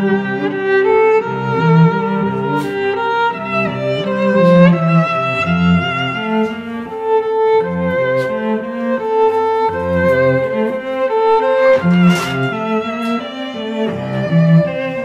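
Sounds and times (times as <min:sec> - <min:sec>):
cello line: 0:00.0 - 0:15.0
violin melody: 0:00.0 - 0:15.0.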